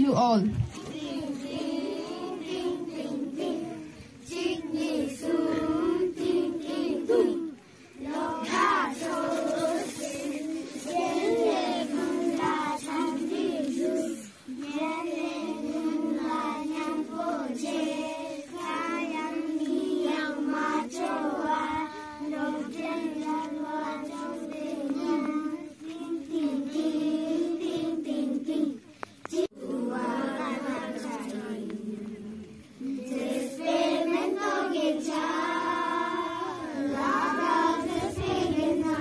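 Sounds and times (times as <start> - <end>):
child chanting a poem: 0.2 - 39.0.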